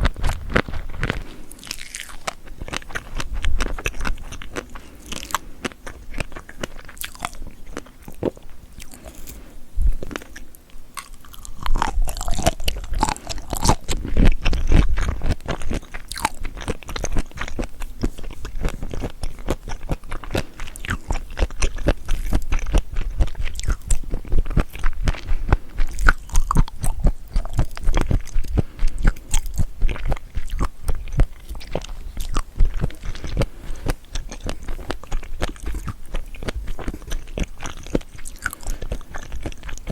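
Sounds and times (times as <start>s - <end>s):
wet crunchy chewing: 0.0s - 39.9s.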